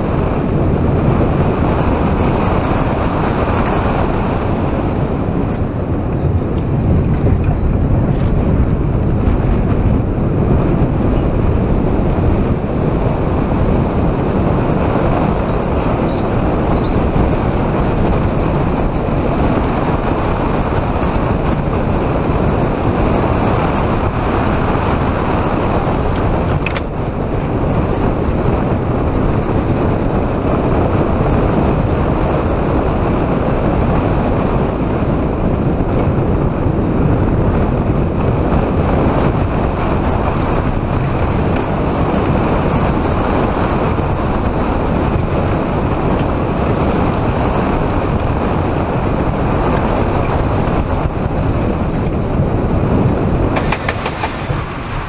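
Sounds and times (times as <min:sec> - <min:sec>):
roller coaster rumbling on track: 0:00.0 - 0:55.0
wind rushing over microphone: 0:00.0 - 0:55.0.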